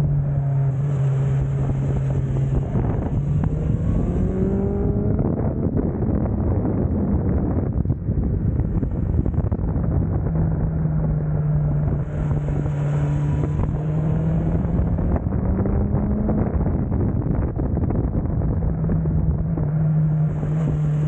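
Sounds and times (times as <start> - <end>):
motorcycle engine running: 0.0 - 21.0
wind buffeting on microphone: 0.0 - 21.0.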